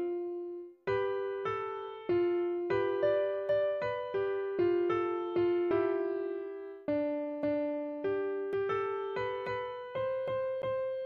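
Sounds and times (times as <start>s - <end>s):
electric piano melody: 0.0s - 11.0s.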